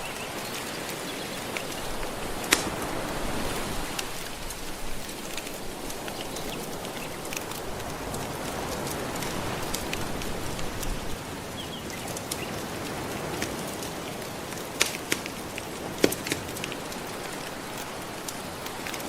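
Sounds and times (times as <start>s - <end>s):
gentle ocean waves: 0.0s - 19.0s
wood fire crackling and popping: 0.0s - 19.0s.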